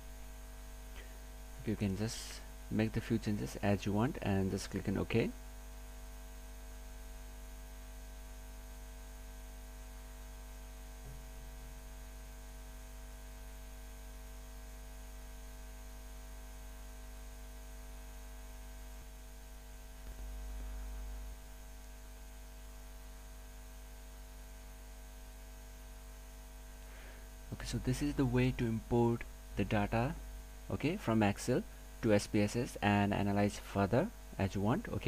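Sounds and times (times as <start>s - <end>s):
electrical mains hum with hiss: 0.0s - 35.0s.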